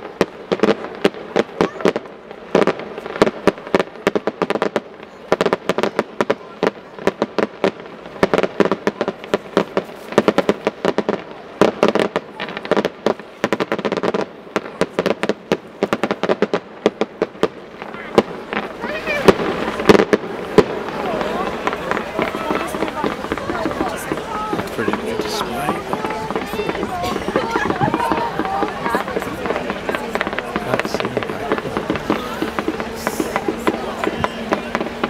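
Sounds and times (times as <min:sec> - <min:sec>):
fireworks bangs and cracks: 0:00.0 - 0:35.0.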